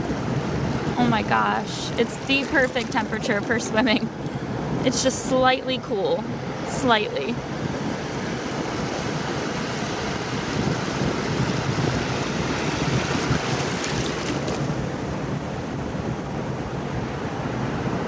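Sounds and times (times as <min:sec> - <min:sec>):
sea surf washing: 0:00.0 - 0:18.0
wind noise on microphone: 0:00.0 - 0:18.0.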